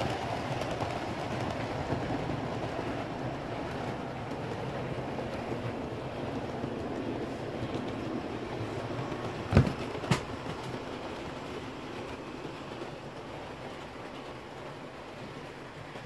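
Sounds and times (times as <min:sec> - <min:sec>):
model train rumbling on track: 0:00.0 - 0:16.0.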